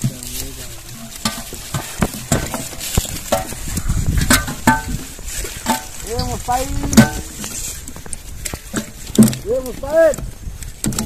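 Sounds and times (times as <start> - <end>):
wet slithering and squelching: 0.0 - 11.0.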